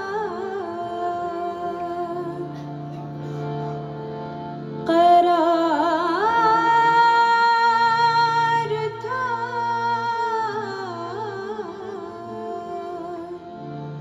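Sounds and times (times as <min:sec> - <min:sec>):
woman singing: 0:00.0 - 0:02.7, 0:04.8 - 0:13.5
harmonium sustained notes: 0:00.0 - 0:14.0.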